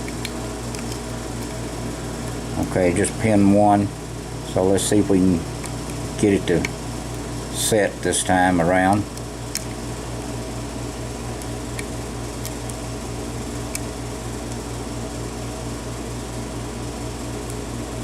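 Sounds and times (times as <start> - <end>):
electric fan-like hum: 0.0 - 18.0.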